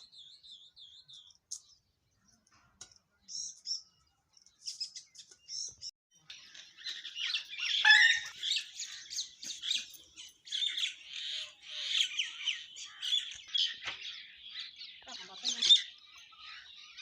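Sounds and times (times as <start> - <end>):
wild birds chirping and singing: 0.0 - 17.0.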